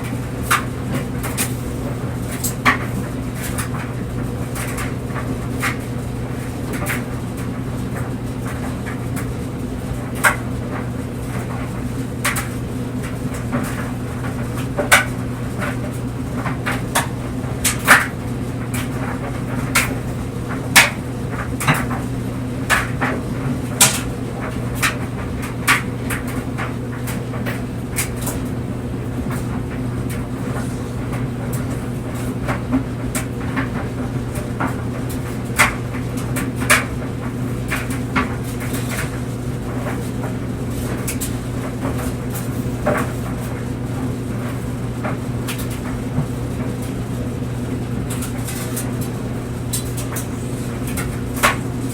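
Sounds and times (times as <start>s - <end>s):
clothes dryer humming: 0.0s - 51.9s.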